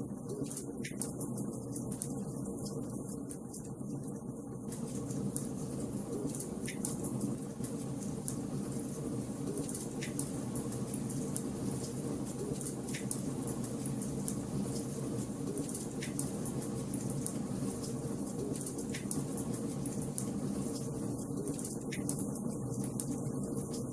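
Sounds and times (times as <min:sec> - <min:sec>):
fire crackling: 0:00.4 - 0:23.9
low rush of burning logs: 0:00.6 - 0:23.9.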